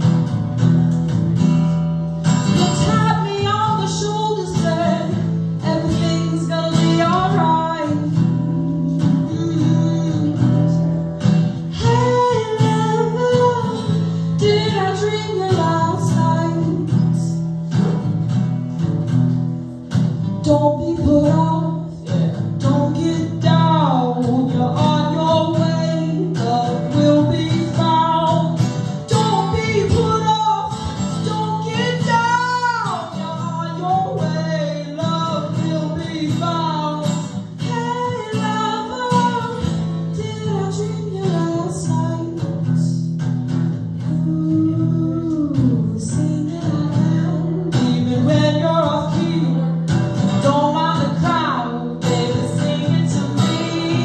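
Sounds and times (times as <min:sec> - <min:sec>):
strummed acoustic guitar: 0:00.0 - 0:54.0
woman singing: 0:02.5 - 0:11.0, 0:11.7 - 0:17.5, 0:20.4 - 0:43.0, 0:44.0 - 0:54.0.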